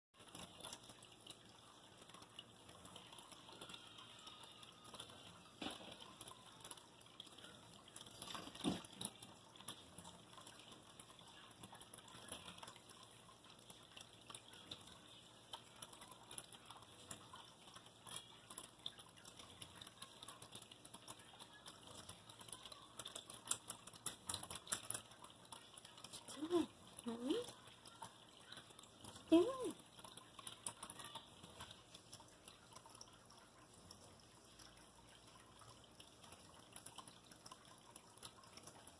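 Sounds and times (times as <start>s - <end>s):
fountain water trickling: 0.2s - 38.9s.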